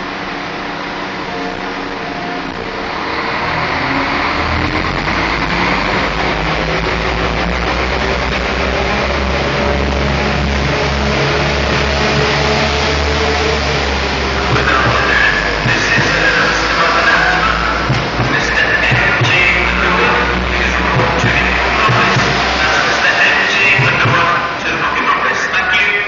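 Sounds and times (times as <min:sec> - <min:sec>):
diesel train engines humming: 0:00.0 - 0:26.0.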